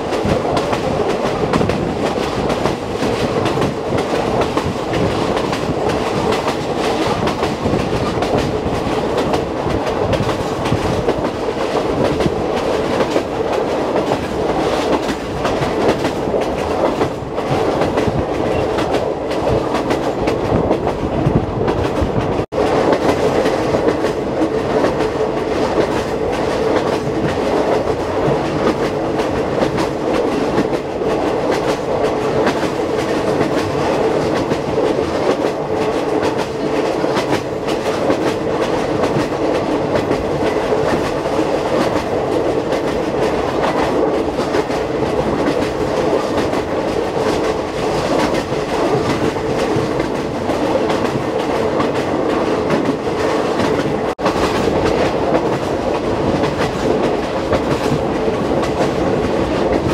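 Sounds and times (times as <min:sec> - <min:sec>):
train rumbling drone: 0:00.0 - 0:59.9.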